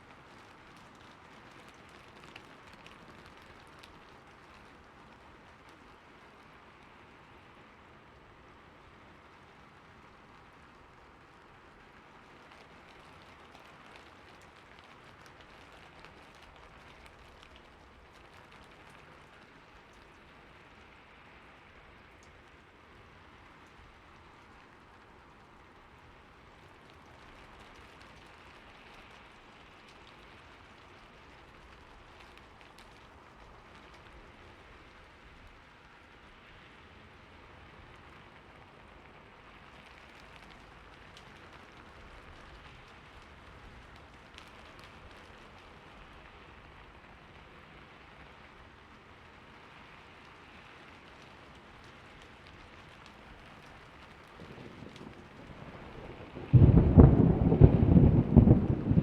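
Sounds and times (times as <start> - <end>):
soft rainfall: 0.0 - 59.0.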